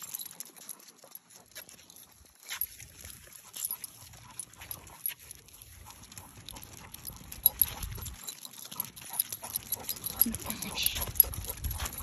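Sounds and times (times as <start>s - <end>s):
claws clicking on pavement: 0.0s - 12.0s
dog tags jingling: 0.0s - 12.0s.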